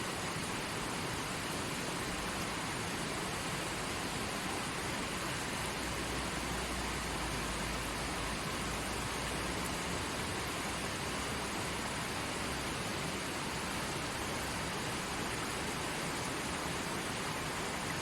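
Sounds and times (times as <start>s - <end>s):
stream water running over rocks: 0.0s - 18.0s.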